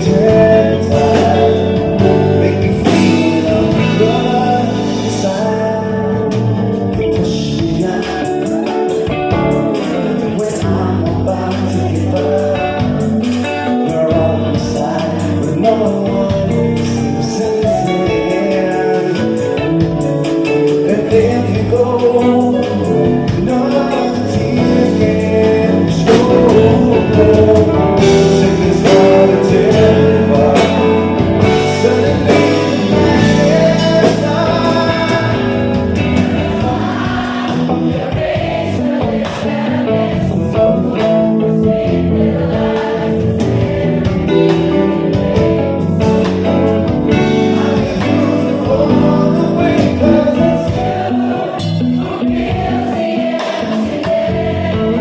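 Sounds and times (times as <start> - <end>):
live band playing slow ballad: 0.0 - 55.0
voices singing: 0.0 - 55.0.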